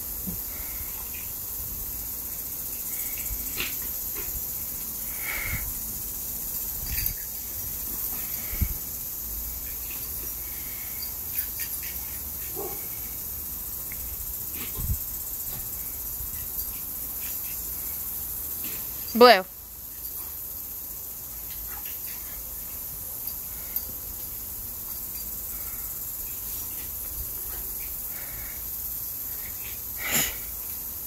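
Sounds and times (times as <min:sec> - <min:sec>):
high-pitched outdoor hiss: 0:00.0 - 0:31.0.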